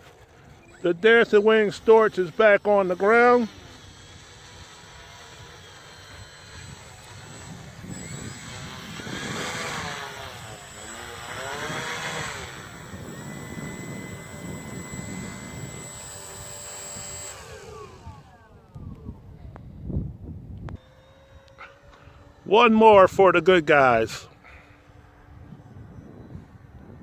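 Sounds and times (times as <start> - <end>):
model airplane electric motor whine: 0.0 - 27.0.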